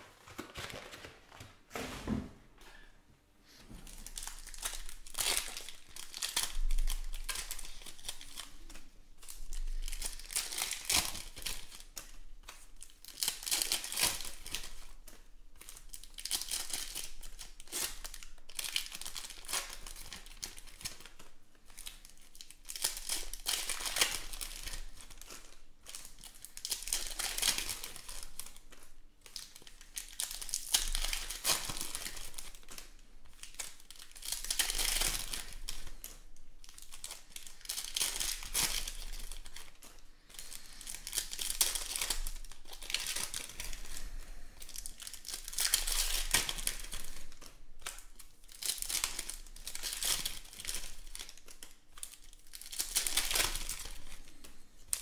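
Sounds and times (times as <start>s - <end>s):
foil wrappers tearing and crinkling: 3.9s - 55.0s.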